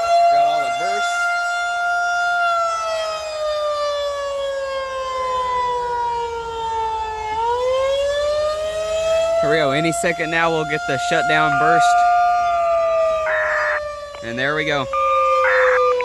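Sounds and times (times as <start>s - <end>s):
warning siren: 0.0s - 16.0s.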